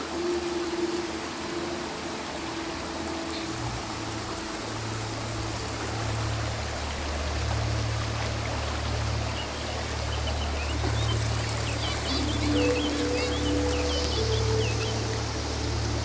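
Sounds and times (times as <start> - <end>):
gentle background music: 0.0 - 16.0
river water rushing: 0.0 - 16.0.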